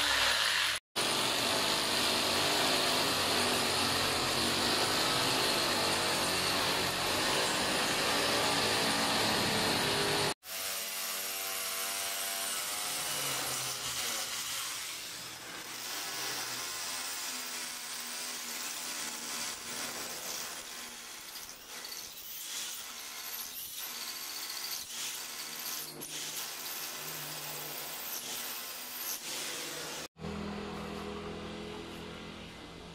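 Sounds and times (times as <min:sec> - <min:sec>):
hammer drill boring into concrete: 0:00.0 - 0:30.2.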